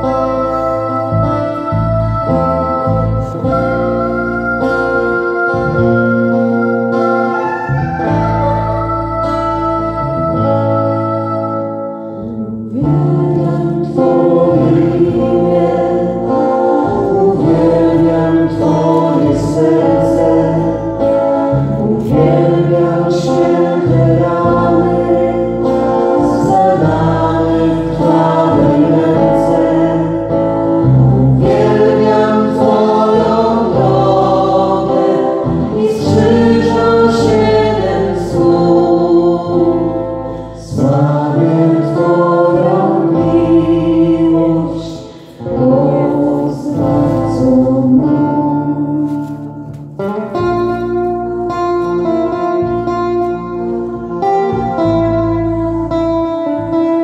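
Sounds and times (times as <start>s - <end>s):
voices singing together: 0.0s - 49.7s
acoustic guitar: 0.0s - 57.0s
keyboard: 0.0s - 57.0s.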